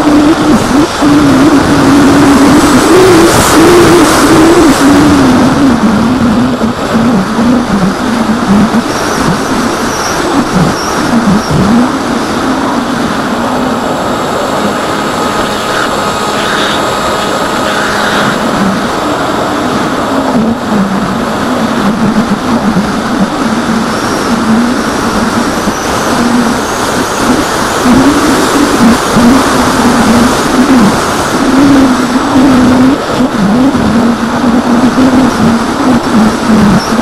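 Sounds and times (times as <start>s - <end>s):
wind rush: 0.0s - 37.0s.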